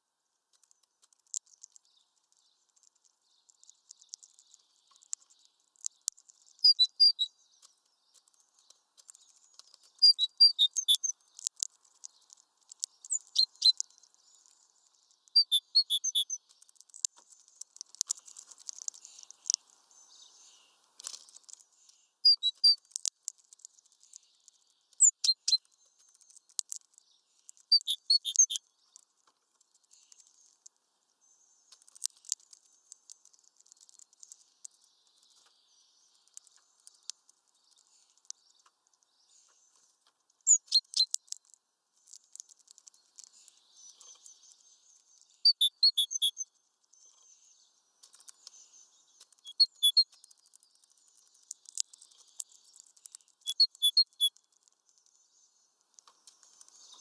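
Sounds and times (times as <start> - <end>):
songbirds chirping: 0.0 - 57.0
birds tapping and pecking: 0.4 - 57.0.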